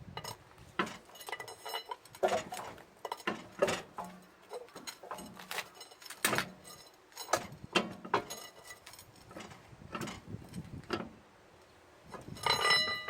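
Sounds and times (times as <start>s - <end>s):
metal tools clinking and knocking: 0.2s - 11.0s, 12.2s - 13.0s.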